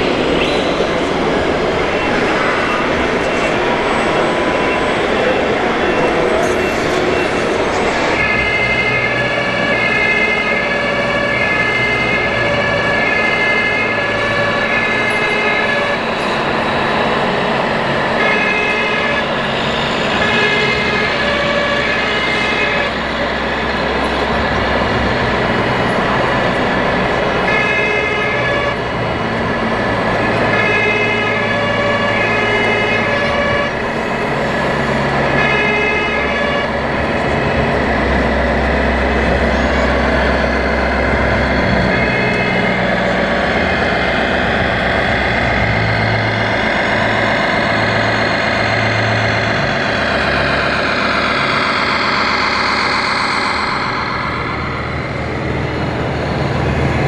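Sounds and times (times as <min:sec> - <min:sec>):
diesel engine rumble: 0:00.0 - 0:57.0
two-tone emergency siren: 0:00.0 - 0:57.0.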